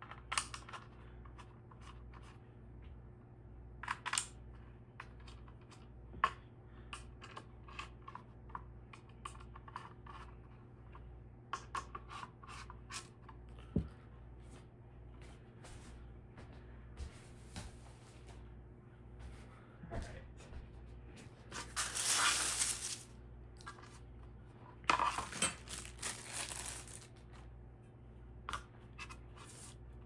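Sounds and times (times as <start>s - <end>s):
steady low hum: 0.8s - 30.0s.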